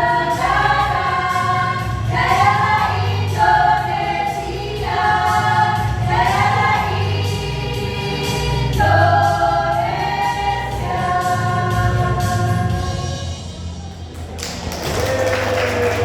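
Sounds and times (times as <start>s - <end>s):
choir singing a march: 0.0s - 13.4s
musical accompaniment: 0.0s - 16.0s.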